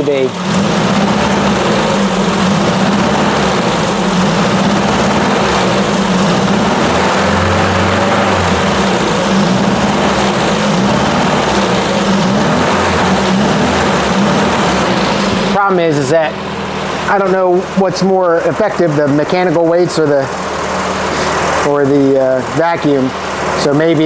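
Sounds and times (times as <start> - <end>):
car engine running steadily: 0.0 - 24.0.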